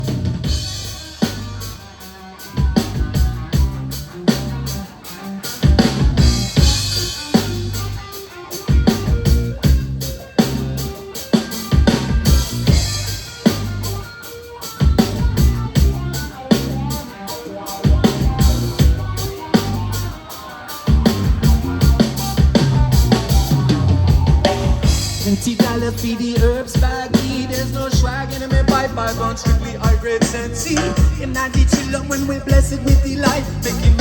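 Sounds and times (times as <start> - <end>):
bass and guitar rhythm: 0.0 - 34.0
drum kit with rimshots: 0.0 - 34.0
reggae band playing: 0.0 - 34.0.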